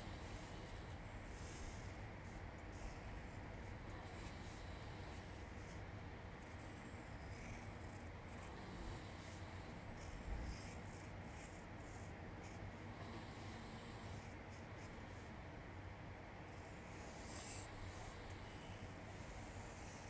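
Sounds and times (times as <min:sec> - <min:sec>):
pencil scratching on paper: 0:00.0 - 0:15.4, 0:16.4 - 0:20.0.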